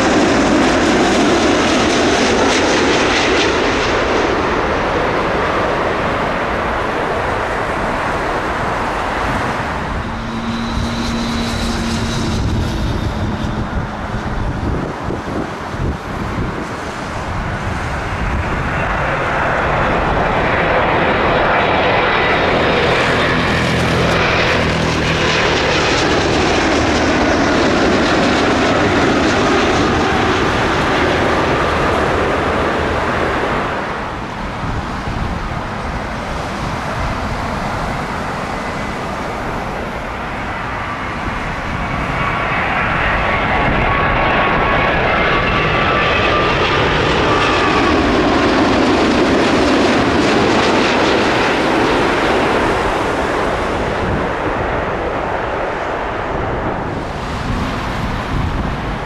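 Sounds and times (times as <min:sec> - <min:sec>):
jet airliner flying overhead: 0:00.0 - 0:59.0
jet engine whine: 0:00.0 - 0:59.0.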